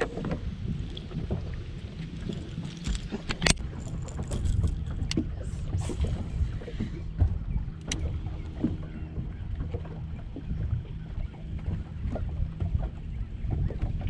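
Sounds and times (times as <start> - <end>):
water lapping at hull: 0.0 - 14.0
wind on microphone: 0.0 - 14.0.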